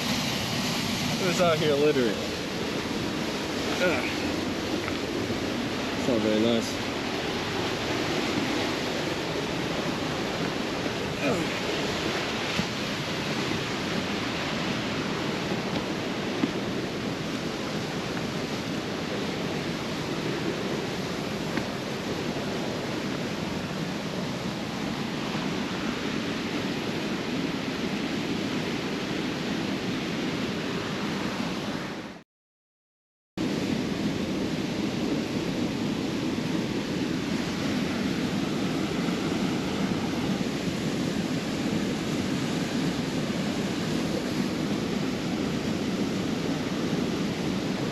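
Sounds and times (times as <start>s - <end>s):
waterfall roaring: 0.0s - 32.0s, 33.4s - 47.9s.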